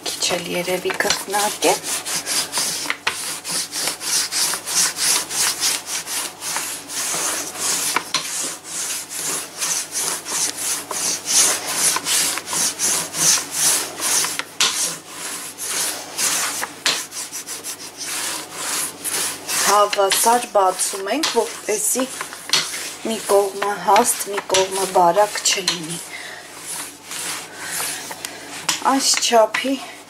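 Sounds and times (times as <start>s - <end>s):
rolling pin rubbing dough: 0.0s - 30.0s.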